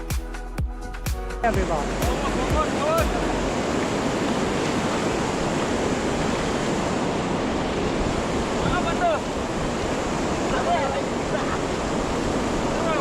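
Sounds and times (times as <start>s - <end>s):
river water rushing through rapids: 1.5s - 13.0s.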